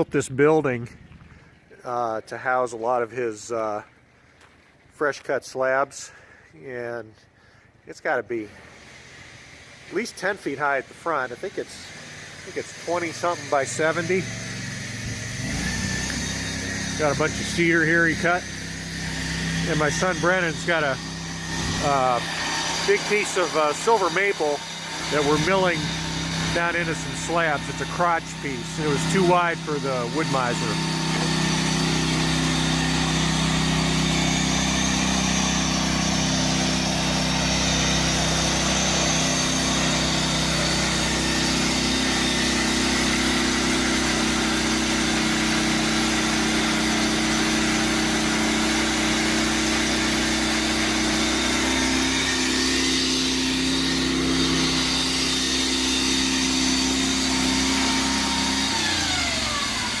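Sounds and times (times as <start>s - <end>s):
chainsaw sawing through log: 8.4s - 60.0s.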